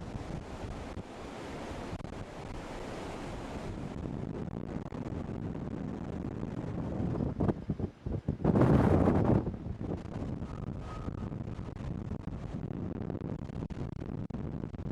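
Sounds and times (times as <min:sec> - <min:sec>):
storm wind buffeting microphone: 0:00.0 - 0:14.9.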